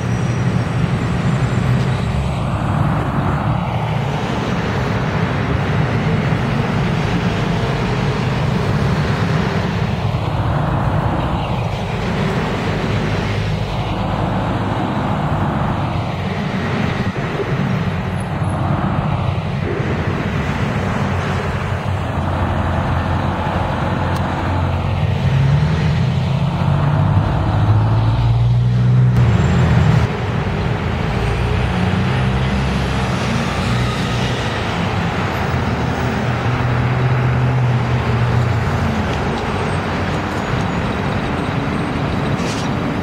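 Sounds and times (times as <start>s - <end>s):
bus engine drone: 0.0s - 43.0s
traffic driving past: 0.0s - 43.0s.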